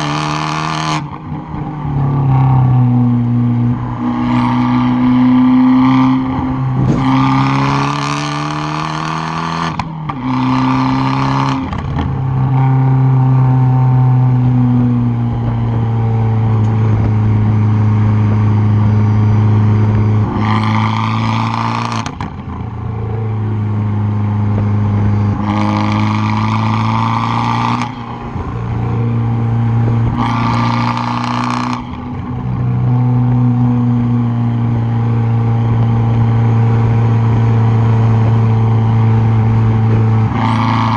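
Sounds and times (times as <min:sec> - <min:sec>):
car exhaust throttle bursts: 0:00.0 - 0:40.9.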